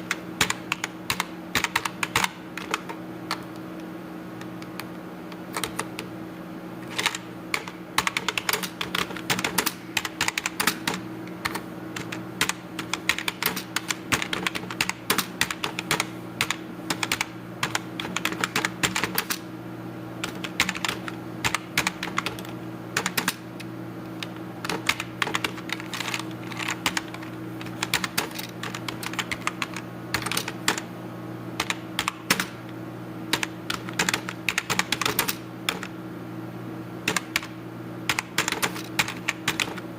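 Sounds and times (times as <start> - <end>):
keyboard typing: 0.0 - 3.6, 4.4 - 6.1, 6.8 - 19.4, 20.2 - 23.4, 24.2 - 30.9, 31.6 - 32.6, 33.3 - 35.9, 37.1 - 37.5, 38.1 - 39.8
steady low hum: 0.0 - 39.9.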